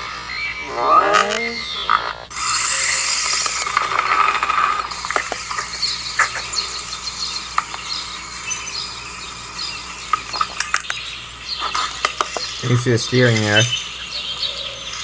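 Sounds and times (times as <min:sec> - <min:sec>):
electric motor whirring: 0:00.0 - 0:13.7.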